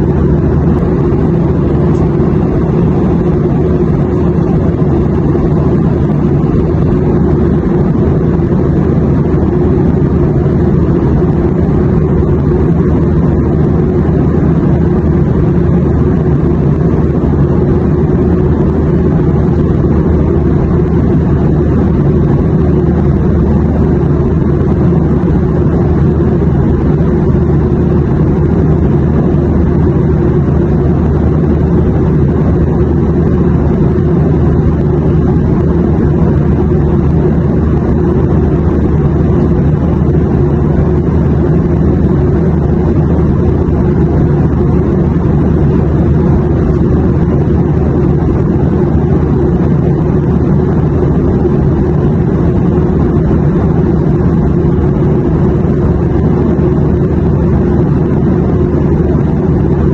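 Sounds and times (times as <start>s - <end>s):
airplane drone: 0.0s - 59.9s.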